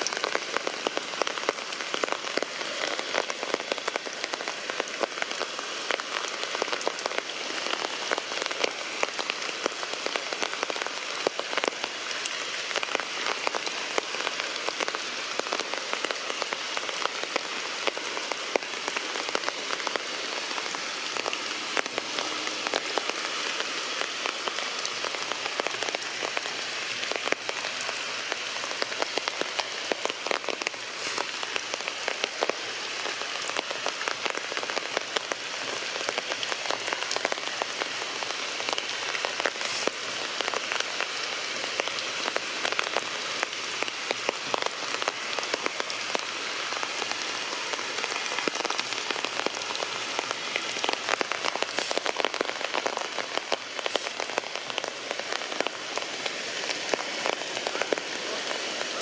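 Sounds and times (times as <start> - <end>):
drips splashing on leaves: 0.0 - 59.0
heavy rain hissing: 0.0 - 59.0.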